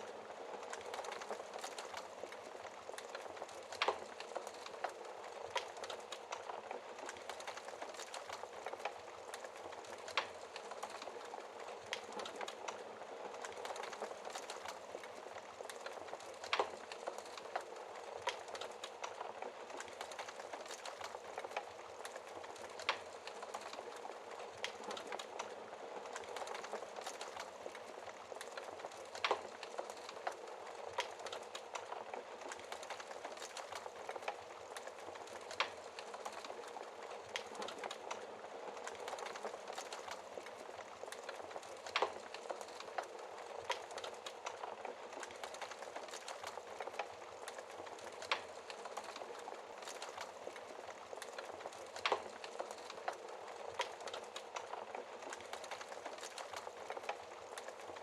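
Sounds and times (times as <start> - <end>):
wood fire hissing and crackling: 0.0 - 58.0.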